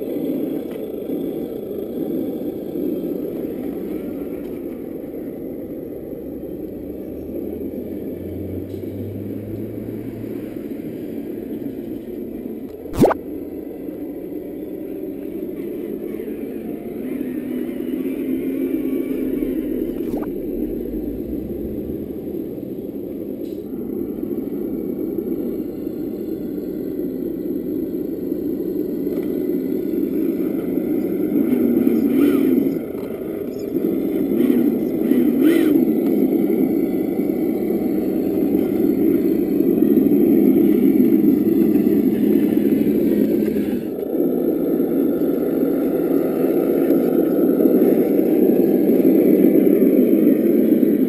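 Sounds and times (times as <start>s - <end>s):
simulated truck engine: 0.0s - 51.0s.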